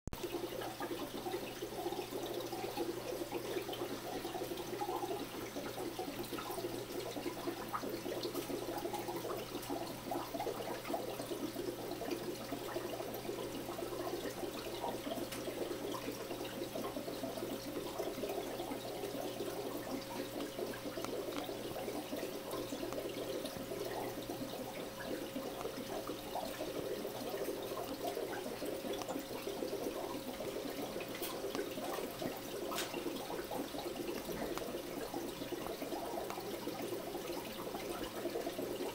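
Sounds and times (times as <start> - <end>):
aquarium air stone bubbling: 0.2 - 38.9
faint steady hum: 0.2 - 38.9.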